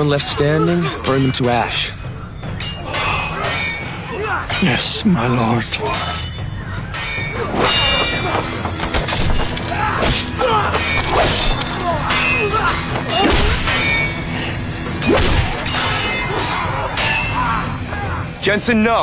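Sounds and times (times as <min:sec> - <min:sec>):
film score music: 0:00.0 - 0:19.0.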